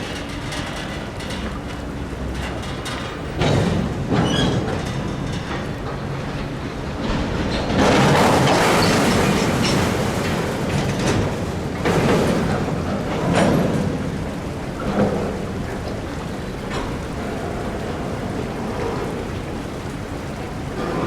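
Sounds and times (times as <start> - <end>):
freight train cars rolling: 0.0 - 21.0
water splashing around wheels: 0.0 - 21.0.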